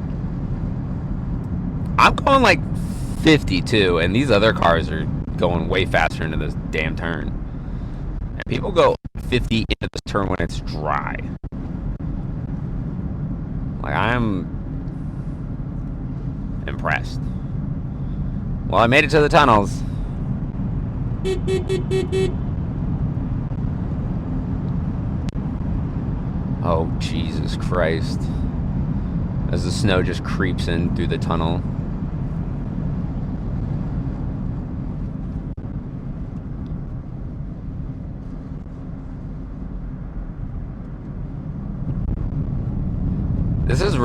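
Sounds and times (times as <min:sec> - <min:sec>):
road and engine rumble in car: 0:00.0 - 0:44.0.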